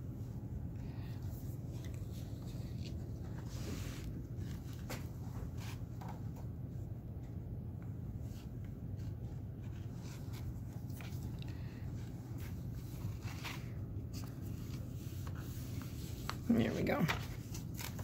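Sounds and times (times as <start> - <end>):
low steady hum: 0.0 - 18.0
paper rustling: 1.2 - 6.5, 8.3 - 18.0.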